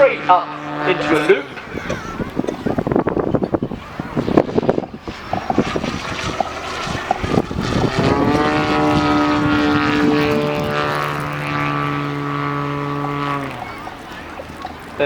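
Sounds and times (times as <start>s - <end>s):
model airplane propeller drone: 0.0s - 15.0s.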